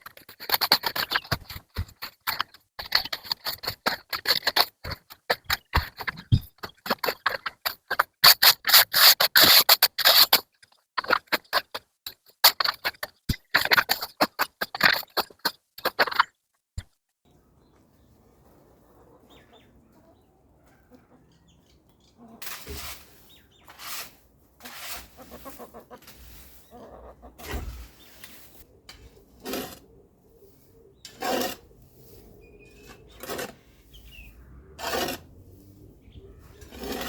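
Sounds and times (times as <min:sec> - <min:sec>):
hand tool scraping wood chips: 0:00.0 - 0:16.3, 0:22.2 - 0:37.0.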